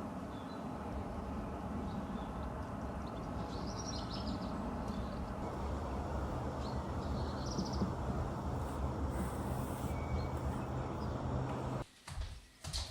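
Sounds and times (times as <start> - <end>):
low background rumble: 0.0 - 11.8.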